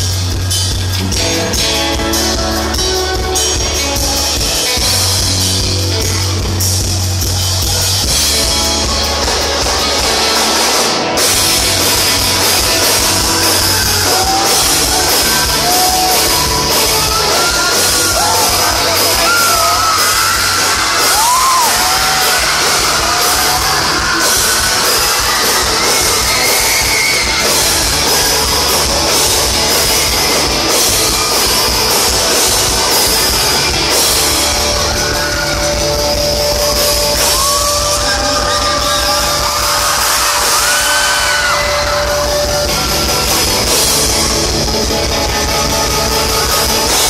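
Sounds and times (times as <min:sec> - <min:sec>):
pop-rock band playing live: 0:00.0 - 0:47.0.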